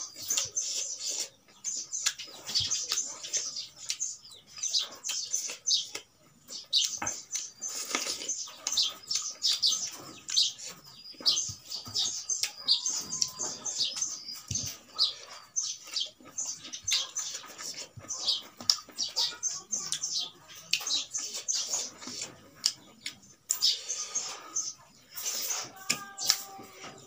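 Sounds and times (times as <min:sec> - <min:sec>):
wet chewing and lip-smacking: 0:00.2 - 0:13.4, 0:14.0 - 0:19.2, 0:19.8 - 0:26.5.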